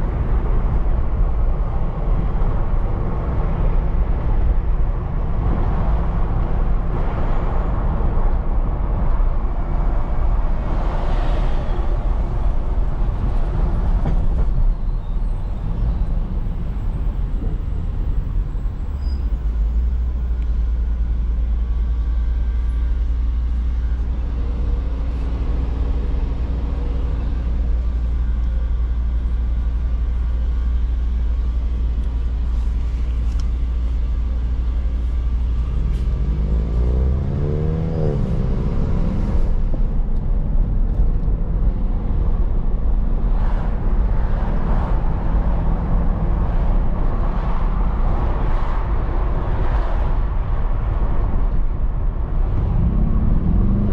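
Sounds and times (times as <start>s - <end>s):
car engine droning and revving: 0.0s - 53.9s.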